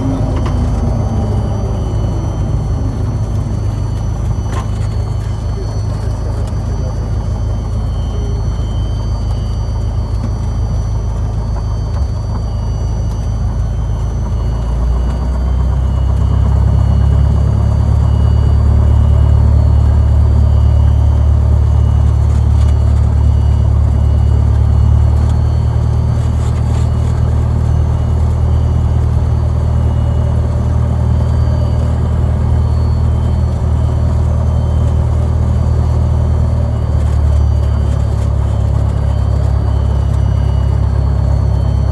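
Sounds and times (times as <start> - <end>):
propeller airplane drone: 0.0 - 41.9.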